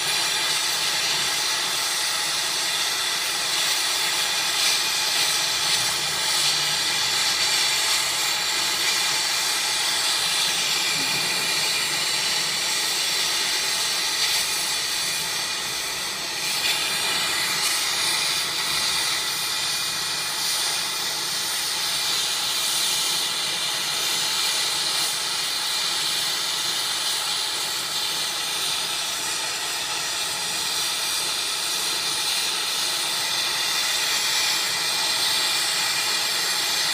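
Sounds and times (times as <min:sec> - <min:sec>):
torch flame hissing: 0:00.0 - 0:36.9.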